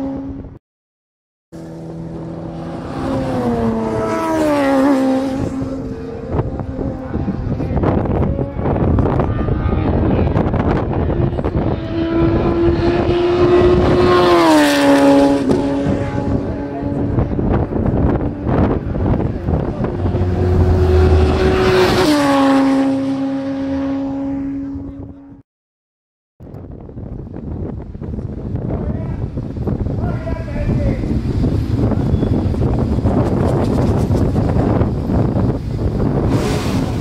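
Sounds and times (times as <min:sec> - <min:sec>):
race cars passing at speed: 0:01.6 - 0:25.4, 0:31.0 - 0:37.0.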